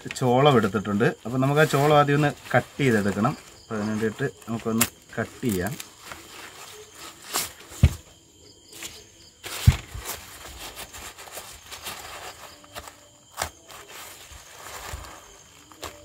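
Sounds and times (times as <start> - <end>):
handling noise: 0.0 - 16.0.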